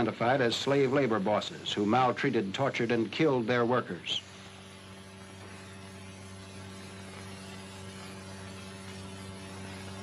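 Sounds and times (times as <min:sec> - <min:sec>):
background hiss: 0:00.0 - 0:10.0
electrical mains hum: 0:00.0 - 0:10.0.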